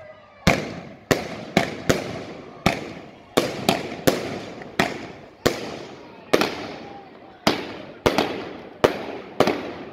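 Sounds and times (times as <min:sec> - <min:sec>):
fireworks bangs with echo: 0:00.4 - 0:09.9.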